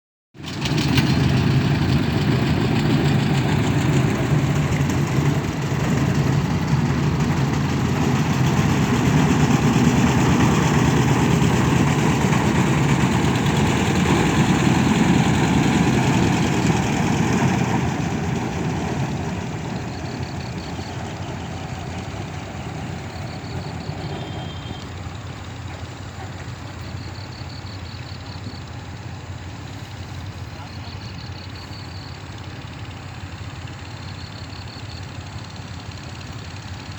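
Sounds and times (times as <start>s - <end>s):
ferry boat engine running: 0.4s - 36.9s.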